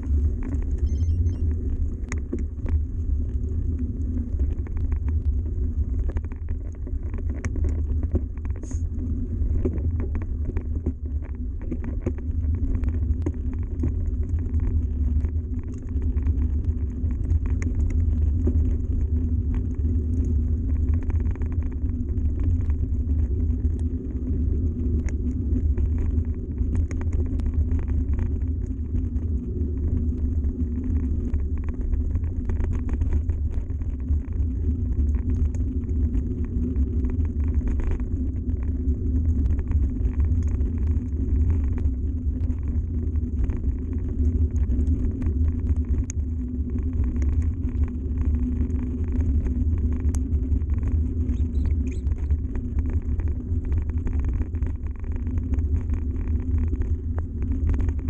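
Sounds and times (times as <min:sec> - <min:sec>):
bike tyres rumbling on gravel: 0:00.0 - 0:00.9, 0:01.5 - 0:58.0
stones and bike rattling: 0:01.9 - 0:58.0.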